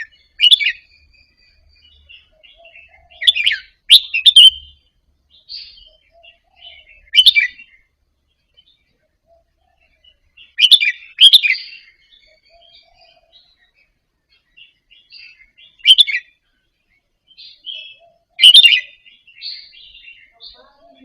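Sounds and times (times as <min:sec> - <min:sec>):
bulbul singing: 0:00.0 - 0:21.0.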